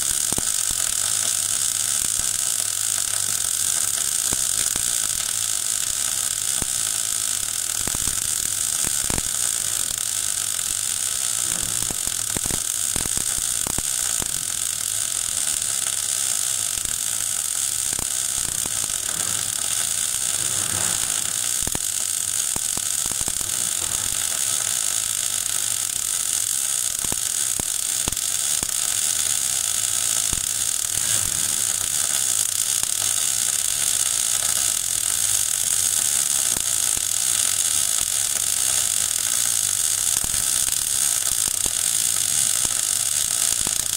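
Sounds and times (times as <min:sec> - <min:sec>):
welding arc crackling: 0:00.0 - 0:43.9.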